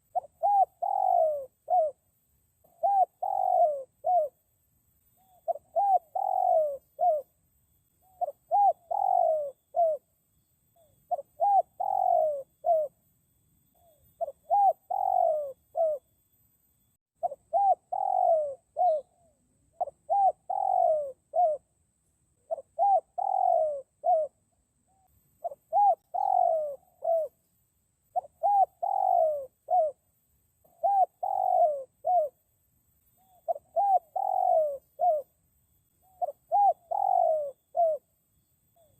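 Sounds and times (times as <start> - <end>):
dove cooing: 0.0 - 4.4, 5.1 - 7.4, 8.0 - 13.1, 13.7 - 16.1, 17.2 - 21.8, 22.4 - 27.4, 28.1 - 32.4, 33.1 - 35.4, 36.0 - 38.9.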